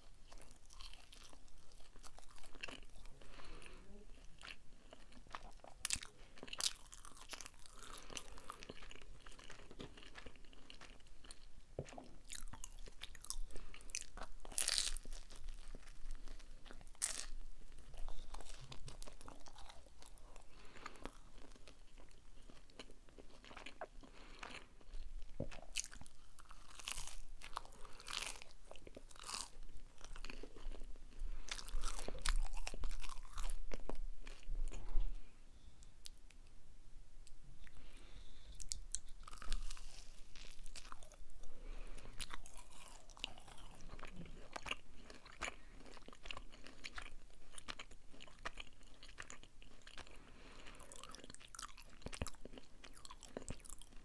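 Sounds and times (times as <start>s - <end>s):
crunchy chewing: 0.0s - 34.9s, 37.6s - 54.0s.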